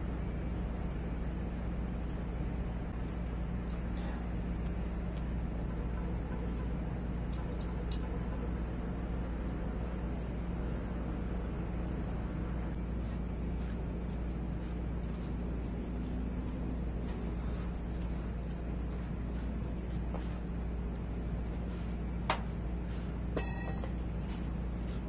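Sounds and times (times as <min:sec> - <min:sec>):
cricket trilling: 0:00.0 - 0:25.0
low hum: 0:00.0 - 0:25.0.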